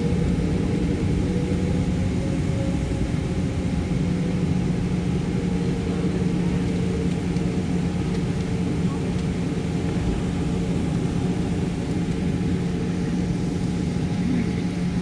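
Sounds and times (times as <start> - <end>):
aircraft cabin engine hum: 0.0 - 15.0.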